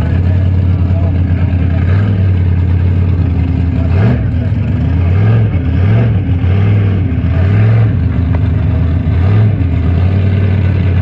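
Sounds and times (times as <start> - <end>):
engine rumble: 0.0 - 11.0
truck engine revving: 0.0 - 11.0.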